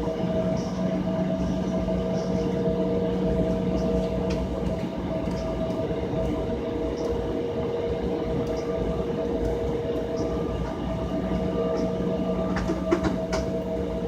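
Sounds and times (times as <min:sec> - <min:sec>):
airliner cabin hum: 0:00.0 - 0:14.0.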